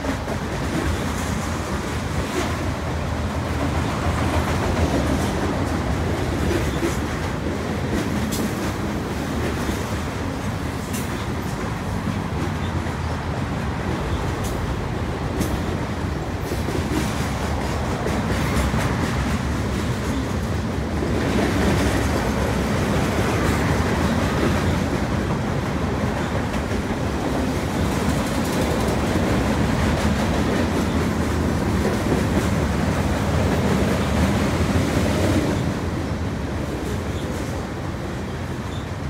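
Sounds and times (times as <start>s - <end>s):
freight trains rumbling past: 0.0s - 39.0s.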